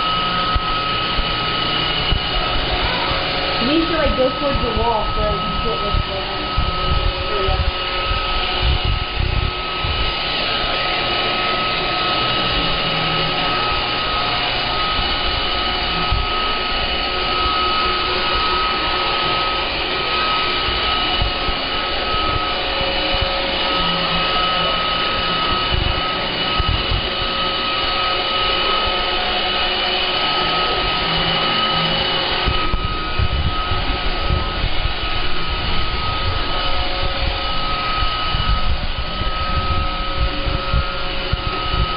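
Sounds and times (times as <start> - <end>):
robot vacuum whirring: 0.0 - 41.9.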